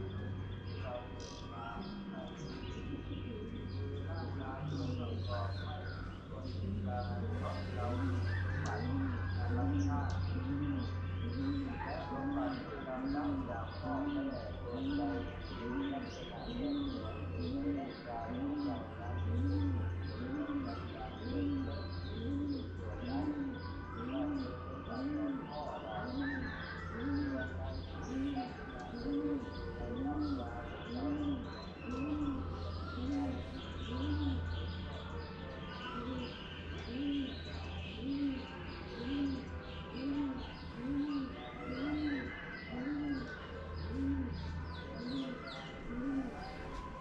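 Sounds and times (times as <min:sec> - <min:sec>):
dove cooing: 0:00.0 - 0:47.0
small birds chirping: 0:00.0 - 0:47.0.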